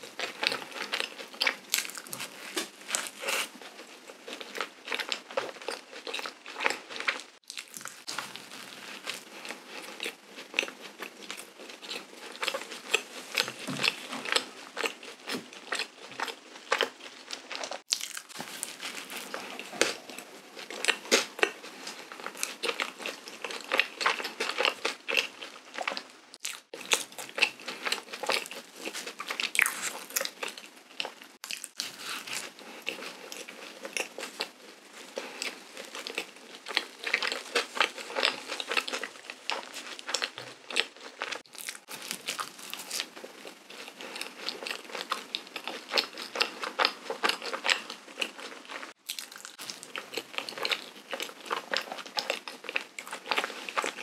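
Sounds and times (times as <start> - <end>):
chewing soft doughnut: 0.0 - 54.0.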